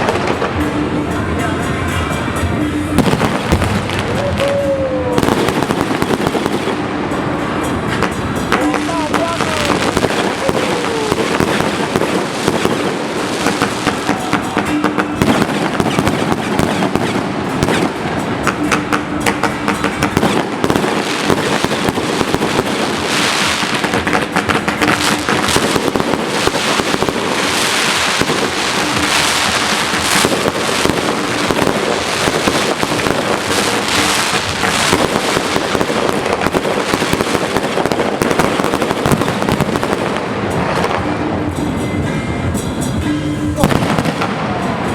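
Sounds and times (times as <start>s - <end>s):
fireworks banging and crackling: 0.0s - 44.9s.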